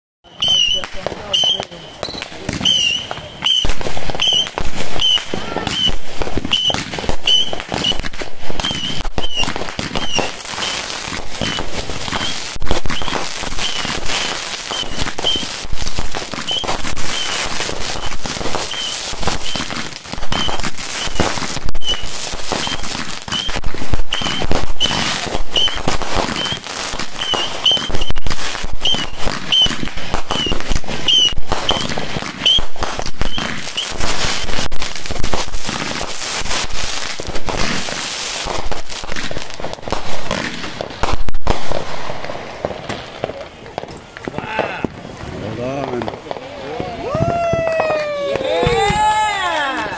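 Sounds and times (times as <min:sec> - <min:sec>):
fireworks bangs and crackling: 0:00.2 - 0:49.9.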